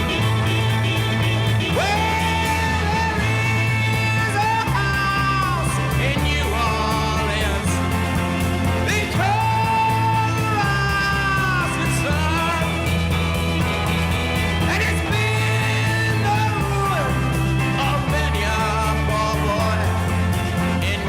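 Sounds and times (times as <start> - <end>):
lead guitar sliding notes: 0.0 - 20.9
bass line: 0.0 - 21.0.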